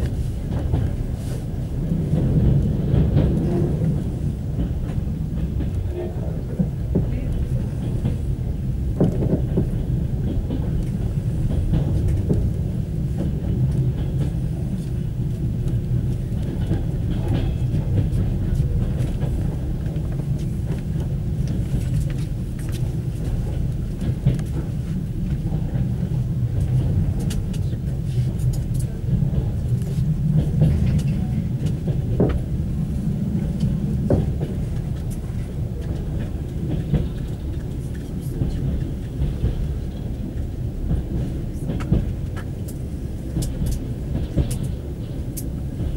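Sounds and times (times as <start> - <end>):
train interior low rumble: 0.0 - 45.9.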